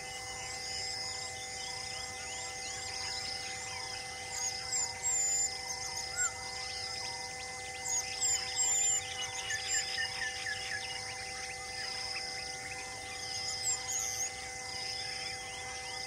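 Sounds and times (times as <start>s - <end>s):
pulsing high insect call: 0.0s - 16.0s
birds chirping and whistling: 0.1s - 16.0s.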